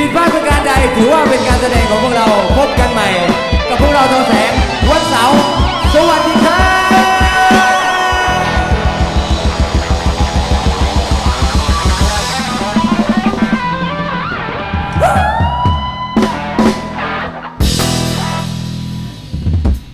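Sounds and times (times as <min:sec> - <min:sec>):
upbeat instrumental band music: 0:00.0 - 0:19.9.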